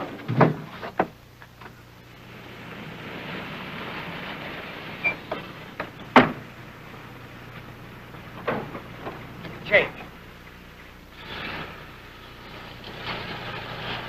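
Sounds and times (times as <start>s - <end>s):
car engine and tyres on dirt: 0.0s - 14.0s.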